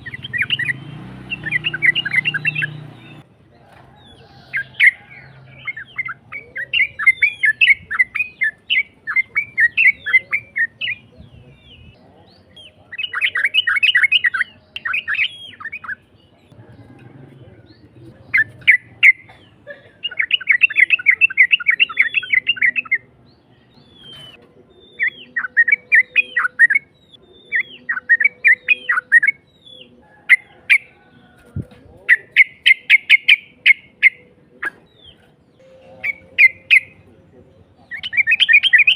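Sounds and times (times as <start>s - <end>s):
bird chirping rapid chatter: 0.0s - 38.9s.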